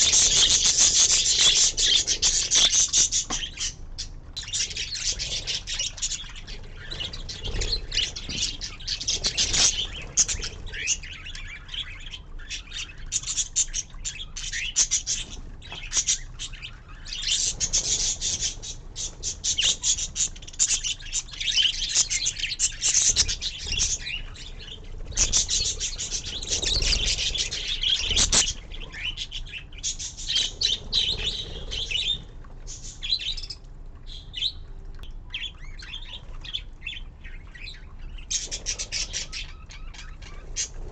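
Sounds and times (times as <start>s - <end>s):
budgerigars chattering: 0.0s - 33.6s.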